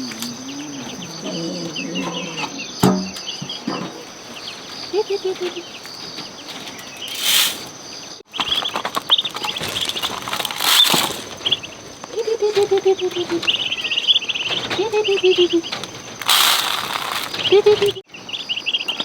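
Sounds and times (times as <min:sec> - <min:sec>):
rustling: 0:00.0 - 0:18.0
small birds chirping: 0:00.0 - 0:19.0.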